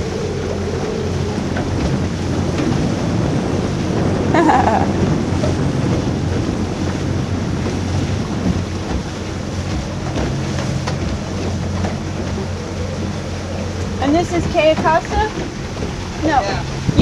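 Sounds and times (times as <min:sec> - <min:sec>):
motorboat engine humming: 0:00.0 - 0:17.0
rushing water: 0:00.0 - 0:17.0
wind buffeting microphone: 0:00.0 - 0:17.0.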